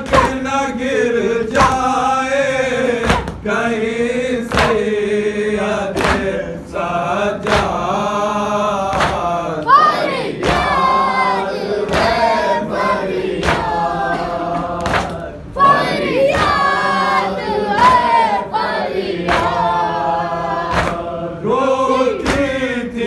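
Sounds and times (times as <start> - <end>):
sharp rhythmic strikes: 0.0 - 0.8, 1.4 - 3.6, 4.4 - 21.3, 22.0 - 22.8
men chanting a lament: 0.0 - 23.0.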